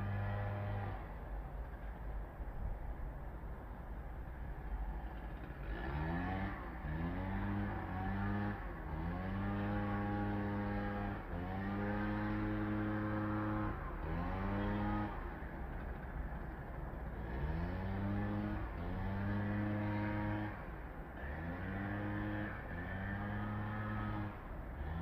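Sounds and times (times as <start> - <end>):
engine accelerating through gears: 0.0 - 1.2, 5.0 - 16.1, 17.1 - 25.0.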